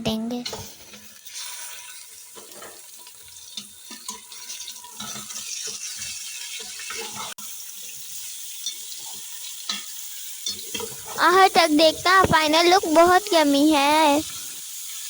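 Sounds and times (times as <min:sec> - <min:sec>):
meat sizzling in hot fat: 0:00.6 - 0:15.0.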